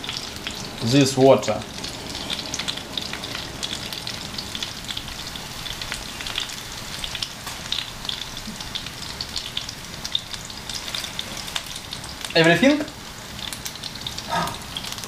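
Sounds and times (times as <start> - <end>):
hot pan crackling and sizzling: 0.0 - 15.0.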